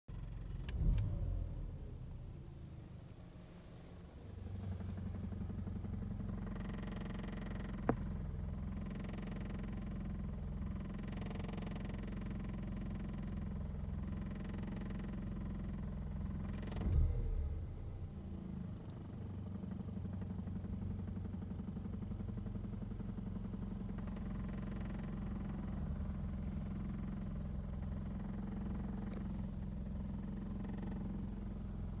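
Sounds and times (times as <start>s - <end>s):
car engine idling: 0.1s - 32.0s.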